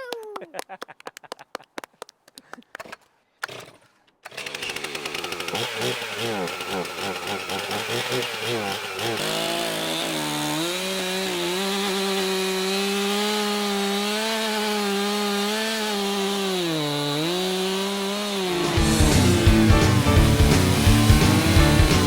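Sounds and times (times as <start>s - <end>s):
chainsaw cutting log: 2.8s - 22.0s.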